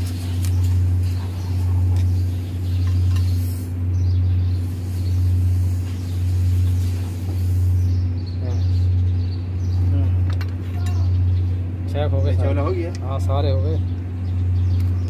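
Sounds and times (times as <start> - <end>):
pulsing mechanical hum: 0.0 - 15.0.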